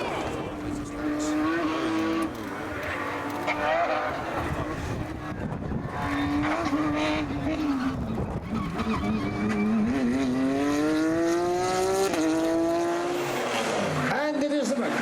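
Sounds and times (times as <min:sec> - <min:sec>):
gear change: 0:00.0 - 0:14.2
rally car engine accelerating: 0:00.0 - 0:14.2.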